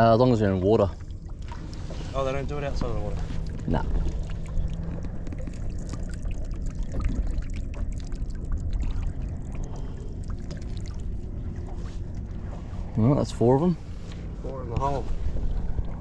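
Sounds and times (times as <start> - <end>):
steady low rumble: 0.0 - 16.0
water trickling and splashing: 0.0 - 16.0.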